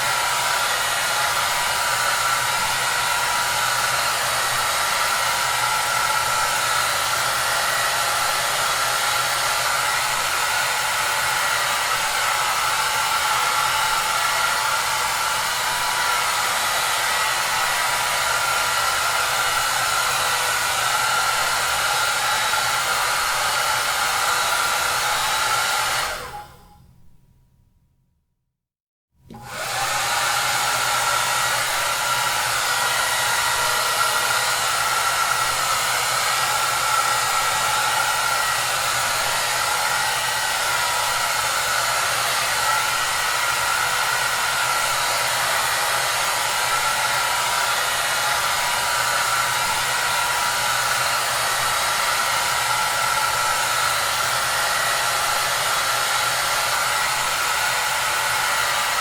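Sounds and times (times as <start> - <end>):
hair dryer running: 0.0 - 26.8, 29.3 - 59.0.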